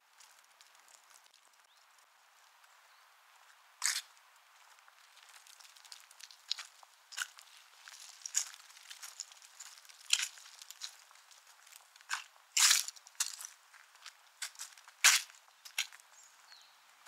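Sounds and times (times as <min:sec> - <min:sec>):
footsteps crunching: 0:00.0 - 0:02.8, 0:03.4 - 0:16.4.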